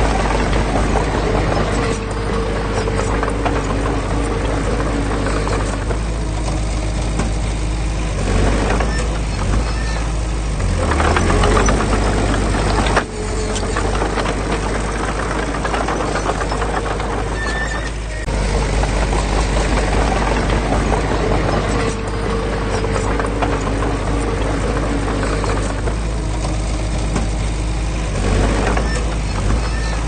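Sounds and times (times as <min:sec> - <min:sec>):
diesel engine rumbling: 0:00.0 - 0:30.0
rattling noise: 0:00.0 - 0:30.0.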